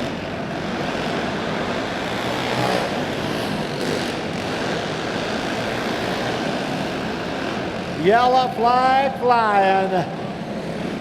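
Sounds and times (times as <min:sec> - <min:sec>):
go-kart engines buzzing: 0:00.0 - 0:11.0.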